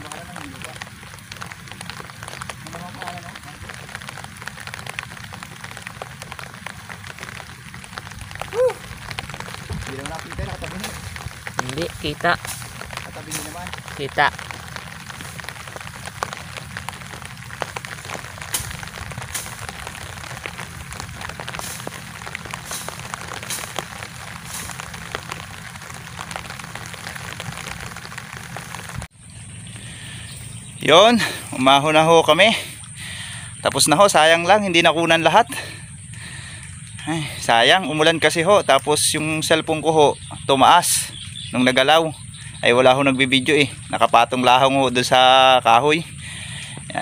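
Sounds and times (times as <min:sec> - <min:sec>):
rain falling on water: 0:00.0 - 0:47.0.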